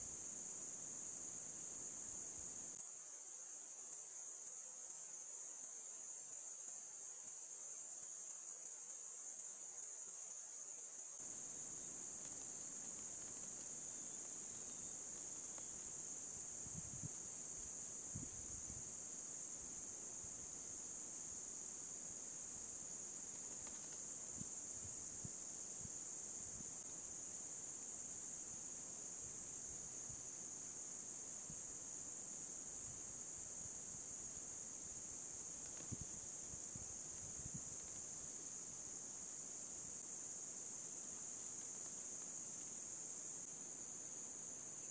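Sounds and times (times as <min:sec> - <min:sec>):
insect chorus trilling: 0:08.0 - 0:44.9.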